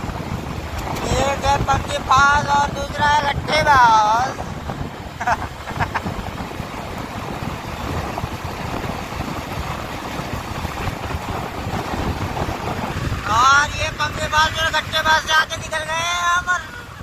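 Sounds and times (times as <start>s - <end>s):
motorcycle engine running: 0.0s - 16.1s
wind on microphone: 0.0s - 17.0s.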